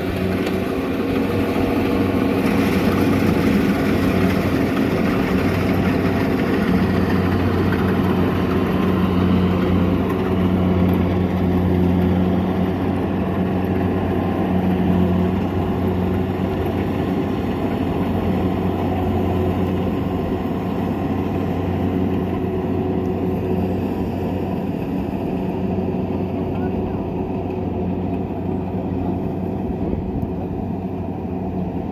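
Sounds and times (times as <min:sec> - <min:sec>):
combine harvester engine running: 0:00.0 - 0:31.9.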